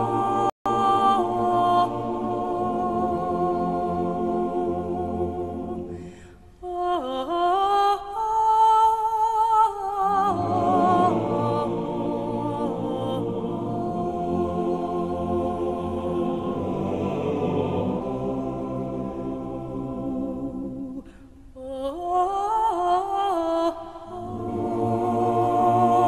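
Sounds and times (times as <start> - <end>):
unaccompanied voices singing: 0.0 - 21.1, 21.8 - 26.0.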